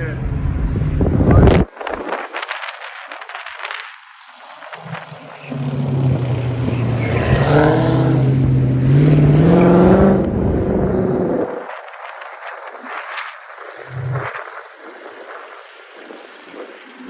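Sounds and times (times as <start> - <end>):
car engine revving: 0.3 - 17.0.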